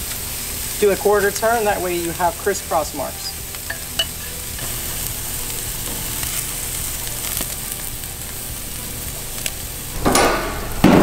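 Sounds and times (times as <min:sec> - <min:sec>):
steaks sizzling on grill: 0:00.0 - 0:11.0.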